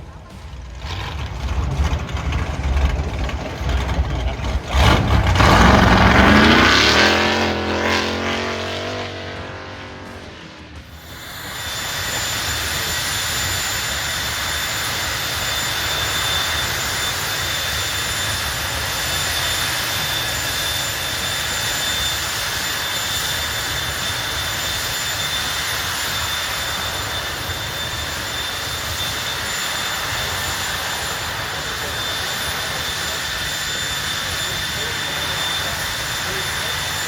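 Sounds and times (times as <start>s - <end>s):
jet turbine running: 0.0s - 37.0s.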